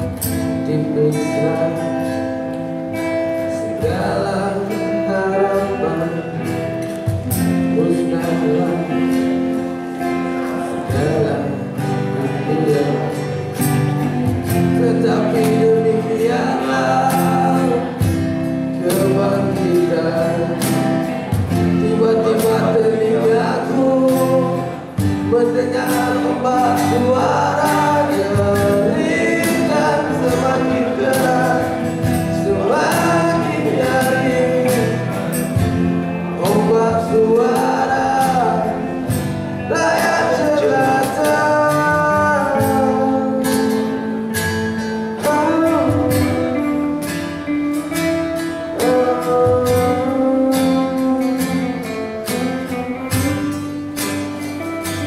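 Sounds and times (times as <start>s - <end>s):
acoustic guitar strumming: 0.0s - 55.0s
cajon beats: 0.0s - 55.0s
electric bass: 0.0s - 55.0s
person singing: 0.0s - 55.0s.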